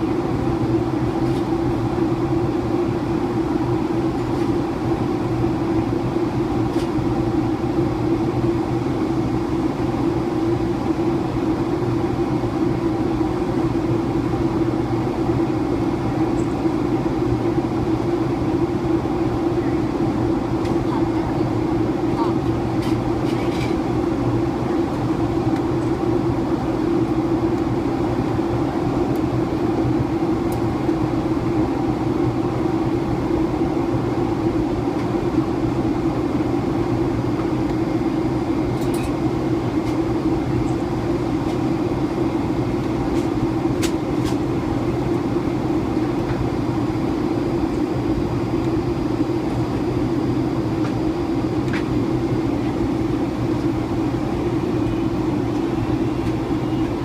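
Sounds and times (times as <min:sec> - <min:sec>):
airplane cabin engine drone: 0:00.0 - 0:57.0.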